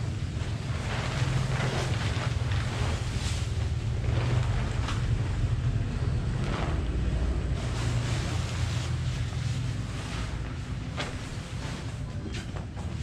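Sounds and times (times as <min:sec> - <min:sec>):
wind rumble on microphone: 0:00.0 - 0:12.0
tent sheet rustling: 0:00.0 - 0:13.0.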